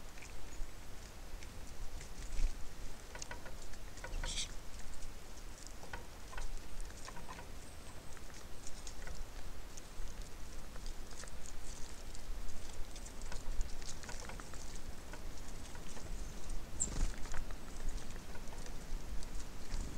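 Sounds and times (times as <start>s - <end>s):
birds pecking at feeder: 0.1s - 19.9s.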